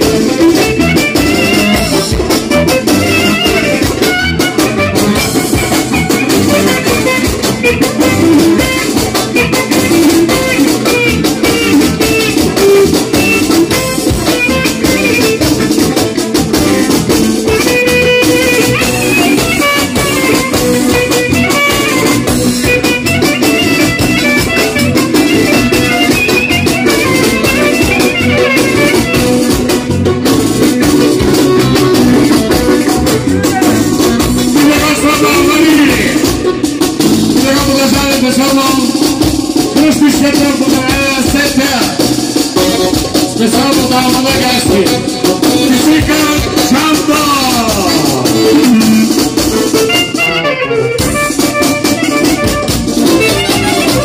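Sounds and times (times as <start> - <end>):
clarinet melody: 0.0 - 41.1, 41.7 - 43.8, 47.6 - 54.0
keyboard: 0.0 - 54.0
percussion beat: 0.0 - 54.0.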